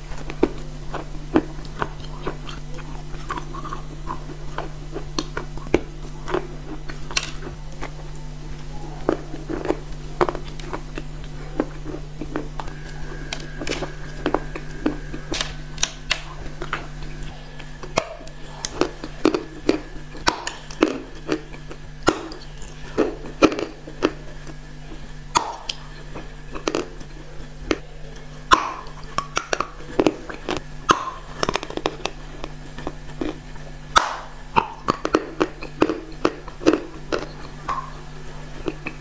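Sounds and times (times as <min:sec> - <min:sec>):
crunchy chewing: 0:00.0 - 0:39.0
low hum: 0:00.0 - 0:39.0.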